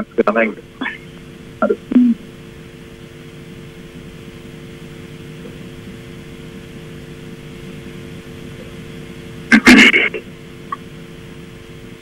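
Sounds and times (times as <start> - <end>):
faint even hum: 0.0 - 12.0
steady hiss: 0.0 - 12.0.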